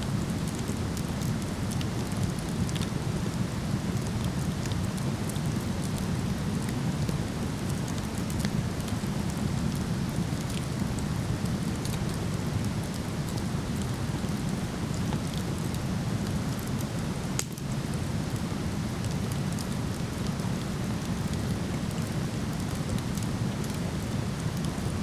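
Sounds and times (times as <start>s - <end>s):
wood fire crackling and popping: 0.3s - 24.6s.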